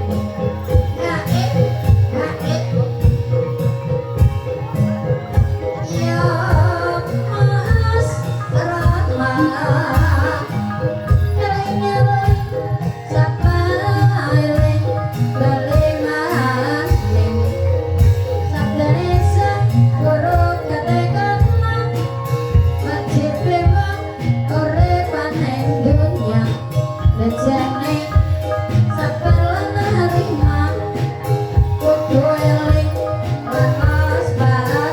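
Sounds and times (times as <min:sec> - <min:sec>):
metallophone tones: 0:00.0 - 0:34.9
woman singing: 0:00.0 - 0:34.9.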